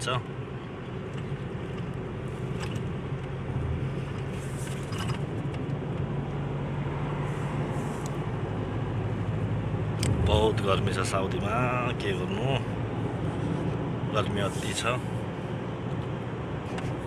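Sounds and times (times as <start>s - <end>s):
engine and tyre noise in cabin: 0.0s - 17.0s.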